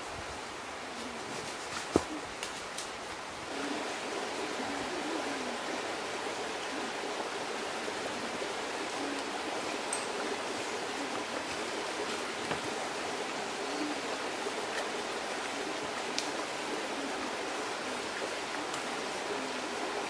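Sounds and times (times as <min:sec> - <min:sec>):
stream running over rocks: 0:01.9 - 0:20.0.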